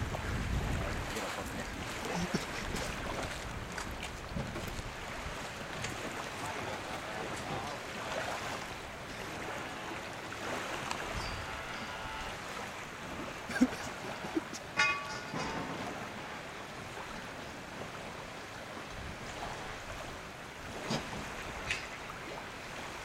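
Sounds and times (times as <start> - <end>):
water lapping against wooden jetty: 0.0 - 23.0
wind: 0.0 - 23.0.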